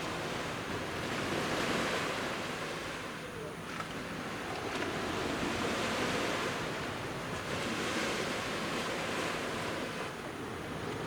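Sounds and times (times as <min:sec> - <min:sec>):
waves washing onto shore: 0:00.0 - 0:11.0.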